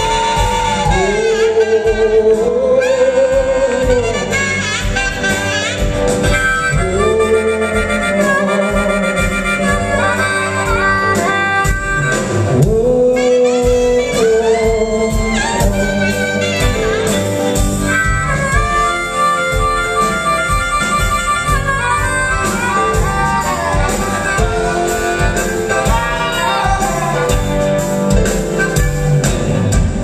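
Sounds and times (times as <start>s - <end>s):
electric guitars: 0.0s - 30.0s
keyboard: 0.0s - 30.0s
live band music: 0.0s - 30.0s
saxophone: 0.0s - 30.0s.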